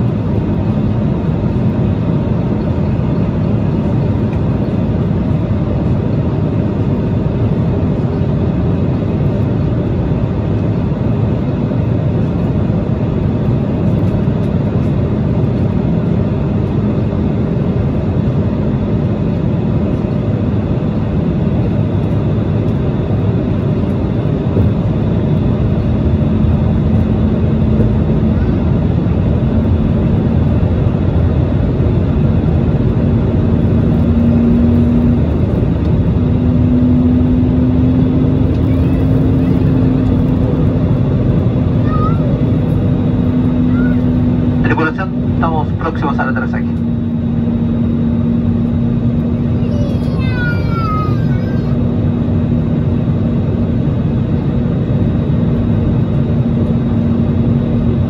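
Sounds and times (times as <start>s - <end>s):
airplane cabin airflow rush: 0.0s - 58.0s
jet engine drone: 0.0s - 58.0s.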